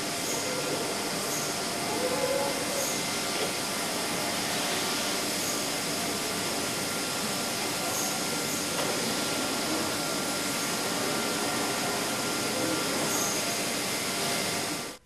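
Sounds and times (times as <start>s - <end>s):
machinery hiss: 0.0s - 15.0s.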